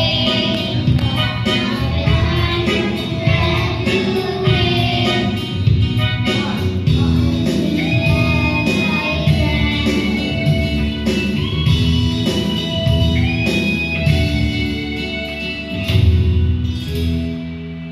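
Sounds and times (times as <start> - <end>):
song with guitar and singing: 0.0 - 15.9.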